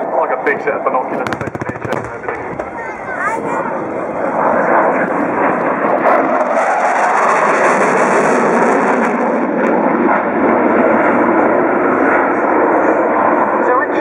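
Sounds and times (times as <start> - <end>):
jet flying overhead: 0.0 - 14.0.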